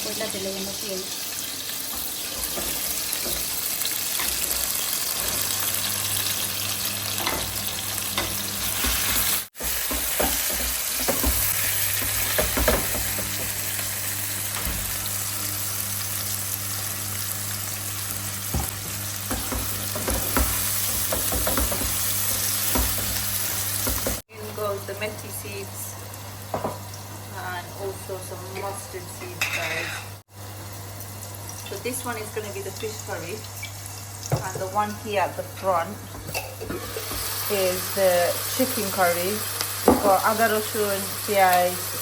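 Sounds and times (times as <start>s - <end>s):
food sizzling in hot oil: 0.0s - 42.0s.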